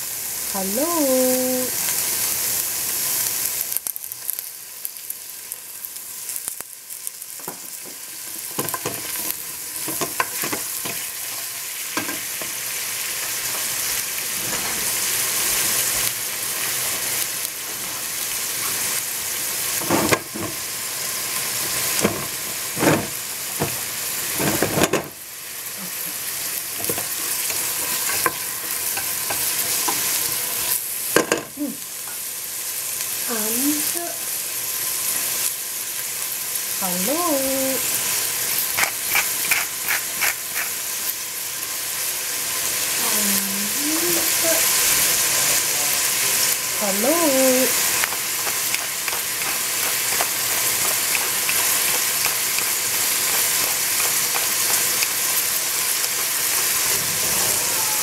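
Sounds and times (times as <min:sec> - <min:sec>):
vegetables sizzling in a pot: 0:00.0 - 0:58.0.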